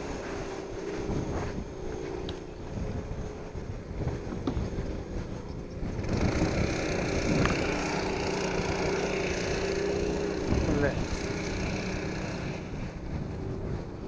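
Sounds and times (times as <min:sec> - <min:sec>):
snowmobile engine at low revs: 0:00.0 - 0:14.0
wind rushing on microphone: 0:00.0 - 0:14.0.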